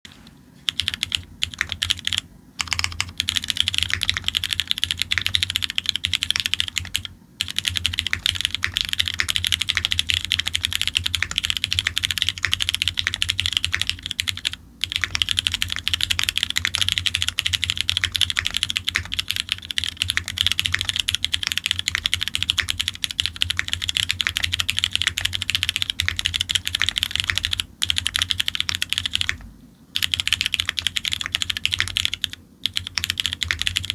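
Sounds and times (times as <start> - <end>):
mechanical keyboard typing: 0.7 - 33.9.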